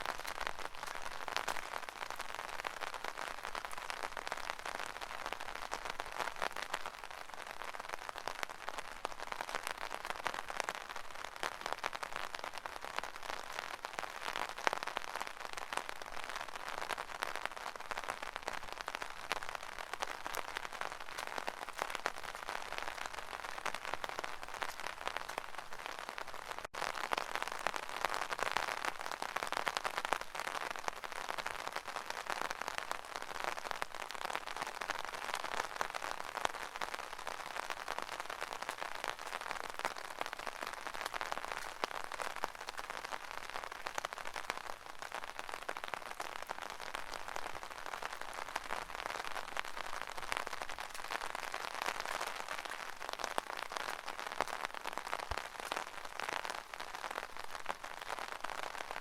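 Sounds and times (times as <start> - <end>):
rain drumming on an umbrella: 0.0 - 59.0.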